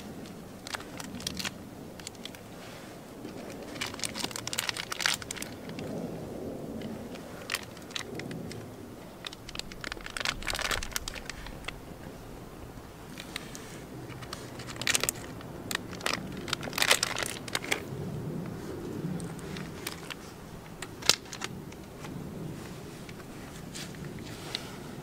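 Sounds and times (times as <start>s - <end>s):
sharp pops and crackles: 0.0s - 12.2s, 13.1s - 25.0s.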